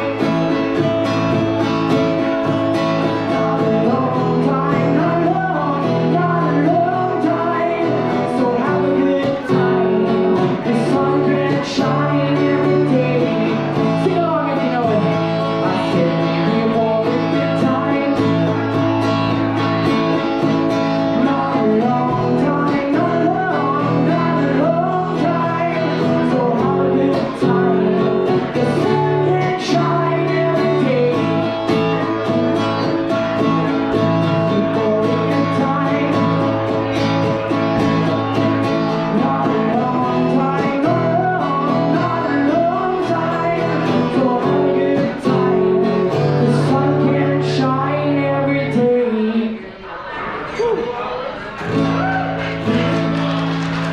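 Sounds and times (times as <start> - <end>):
guitar-led song with singing: 0.0 - 53.9.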